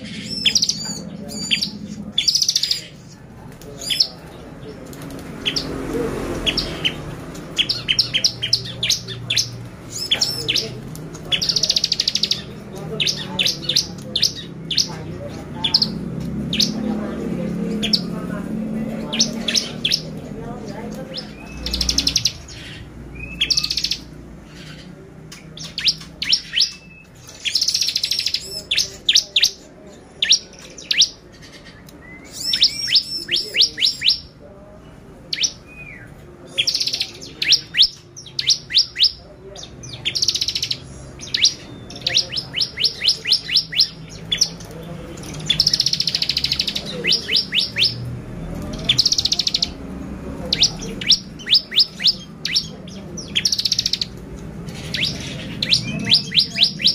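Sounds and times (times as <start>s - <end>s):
bird singing sharp chirps and trills: 0.0s - 56.9s.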